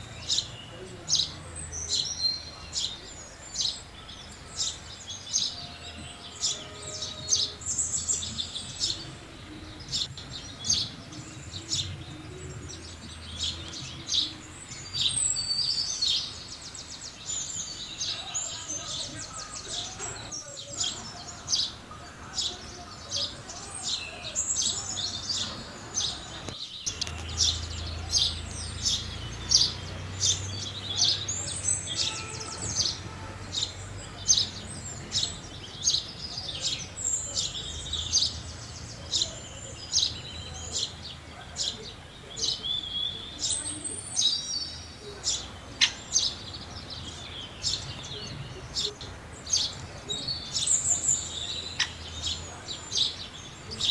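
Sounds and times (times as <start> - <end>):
sparrows chirping: 0.0 - 53.9.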